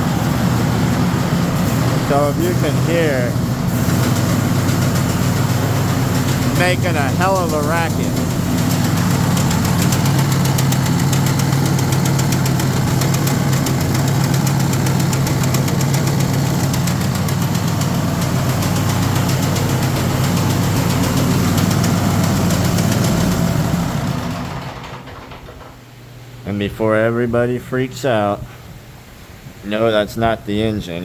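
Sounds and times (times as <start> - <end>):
mower knocking clatter: 0.1 - 25.8.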